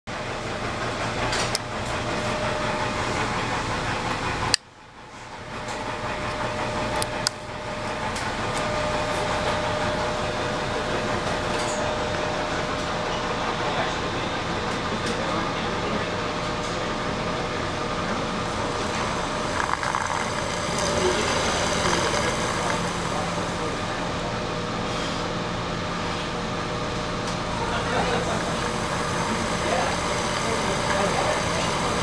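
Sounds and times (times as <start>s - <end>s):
mechanical whirring hum: 5.4s - 32.0s.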